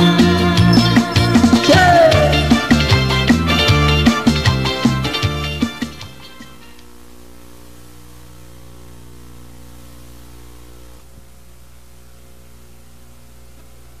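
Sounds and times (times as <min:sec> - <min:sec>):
electrical mains hum: 0:00.0 - 0:14.0
tape hiss: 0:00.0 - 0:14.0.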